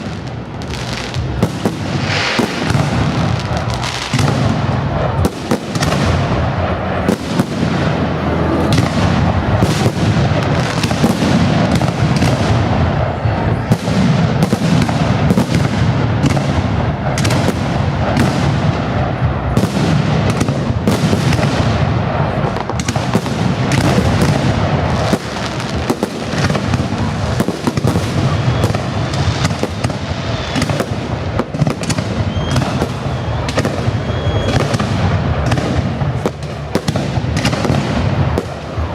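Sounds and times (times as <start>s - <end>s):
fireworks booming and crackling: 0.0s - 38.9s.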